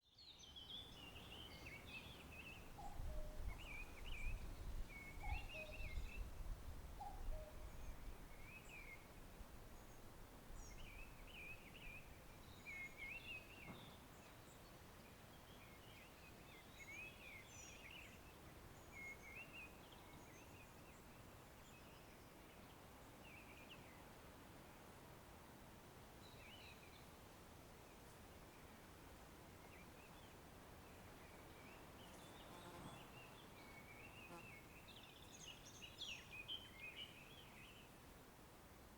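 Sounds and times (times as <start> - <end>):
songbirds singing: 0.1 - 24.0, 29.5 - 38.0.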